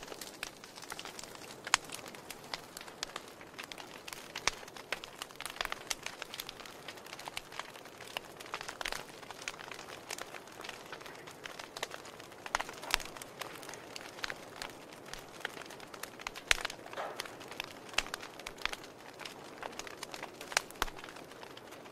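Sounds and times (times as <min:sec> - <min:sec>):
wood fire crackling: 0:00.0 - 0:21.9.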